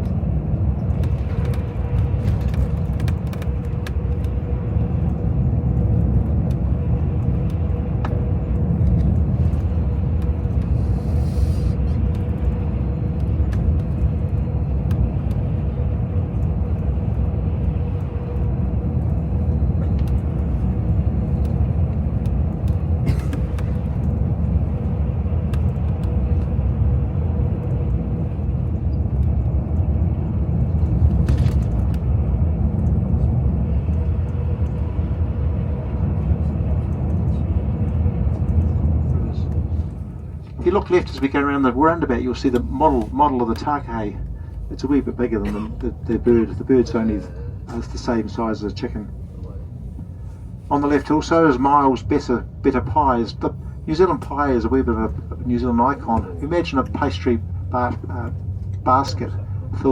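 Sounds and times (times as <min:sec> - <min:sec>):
coach engine and road noise: 0:00.0 - 0:59.9.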